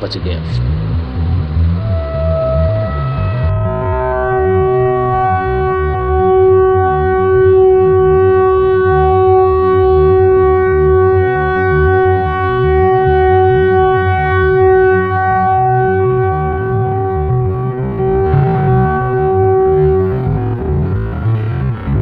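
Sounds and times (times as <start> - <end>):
low train rumble: 0.0 - 22.0
train air horn blast: 1.7 - 21.7.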